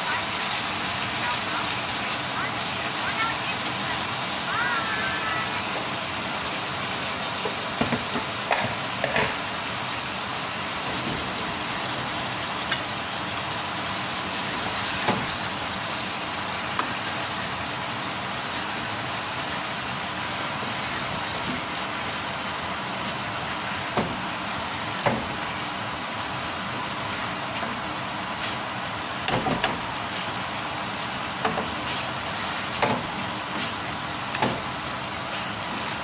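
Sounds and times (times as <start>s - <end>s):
food sizzling in a frying pan: 0.0s - 36.0s.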